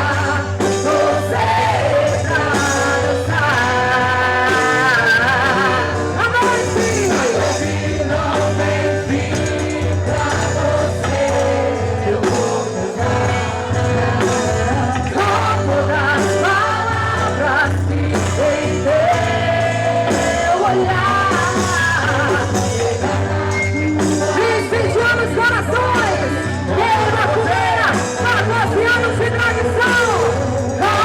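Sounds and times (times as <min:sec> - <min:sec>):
band accompaniment: 0:00.0 - 0:31.0
lead singer singing: 0:00.0 - 0:31.0.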